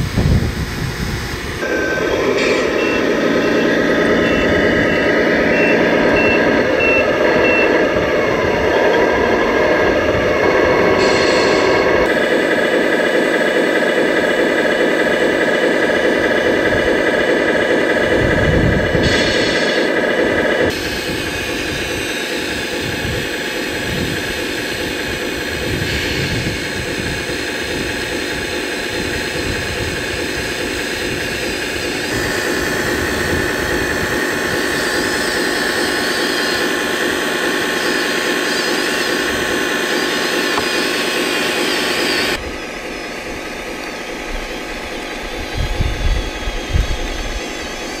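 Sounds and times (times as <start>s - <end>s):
hydraulic pump whine: 0.0s - 48.0s.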